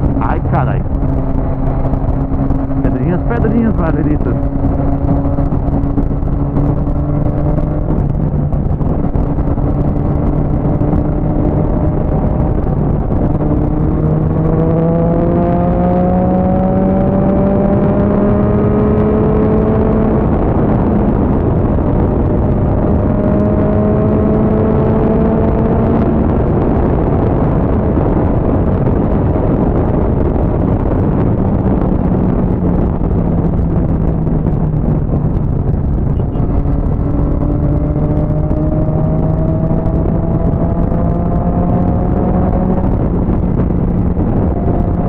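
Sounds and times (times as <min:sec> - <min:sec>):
motorcycle engine cruising: 0:00.0 - 0:45.0
wind and road rush: 0:00.0 - 0:45.0.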